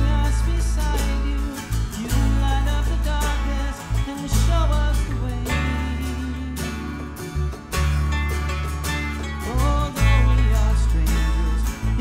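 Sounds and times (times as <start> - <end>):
man singing: 0.0 - 7.5, 9.1 - 12.0
deep bass notes: 0.0 - 12.0
strummed acoustic guitar: 0.0 - 12.0.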